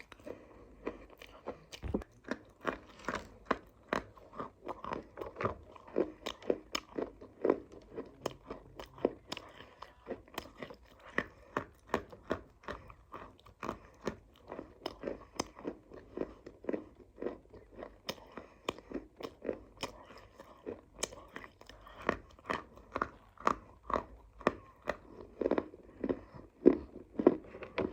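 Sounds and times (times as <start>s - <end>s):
chewing hard dry clay: 0.0s - 27.9s.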